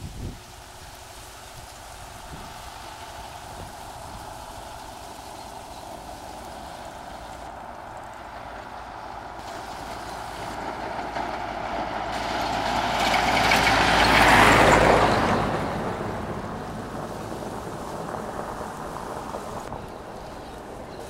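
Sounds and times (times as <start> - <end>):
pickup truck passing on dirt: 0.0 - 21.0.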